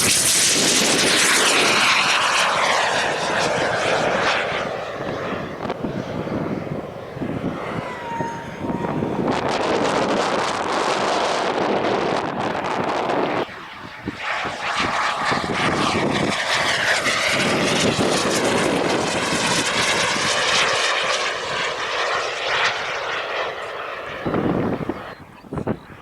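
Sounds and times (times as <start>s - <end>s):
model airplane engine flying past: 0.0s - 26.0s.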